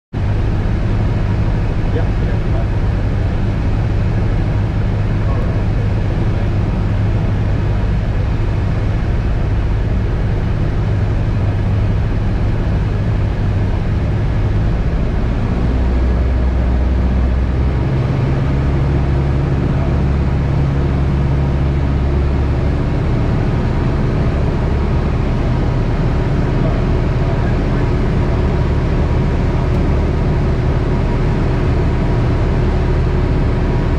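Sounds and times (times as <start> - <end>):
aircraft engine and propeller drone: 0.2 - 33.9.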